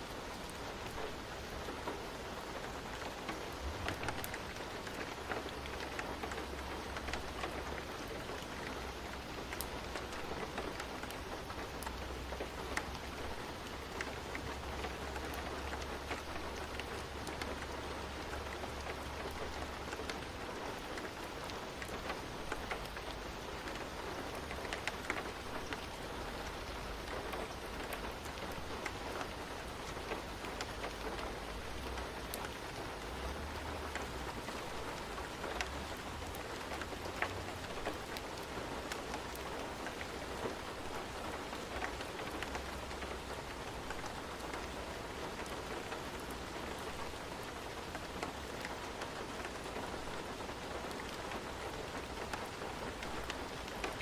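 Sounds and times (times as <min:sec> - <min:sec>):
steady rain with drop ticks: 0:00.0 - 0:54.0.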